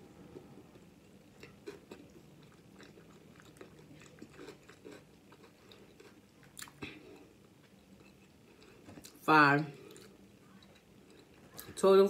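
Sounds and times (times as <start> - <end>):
person chewing: 0.4 - 11.8.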